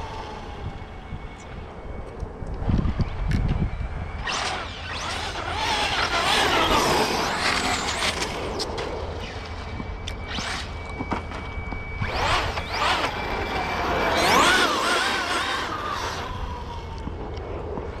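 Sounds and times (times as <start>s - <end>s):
rc car motors whining: 0.0s - 2.2s, 2.8s - 17.4s.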